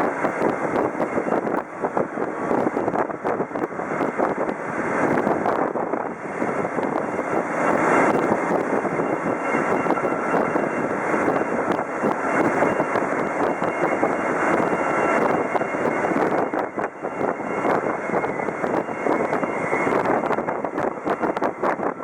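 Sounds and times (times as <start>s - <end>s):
engine and road noise: 0.0s - 22.0s.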